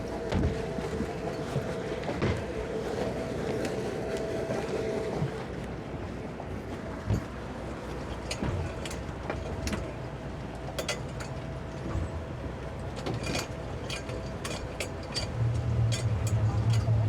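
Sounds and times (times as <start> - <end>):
outboard engines humming: 0.0 - 17.0.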